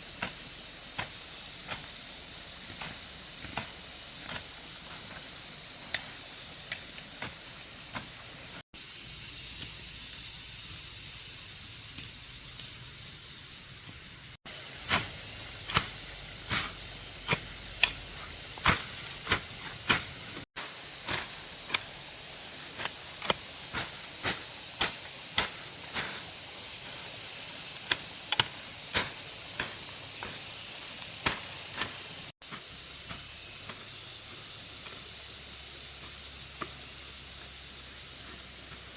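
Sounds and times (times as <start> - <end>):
steady high-pitched hiss: 0.0 - 38.9.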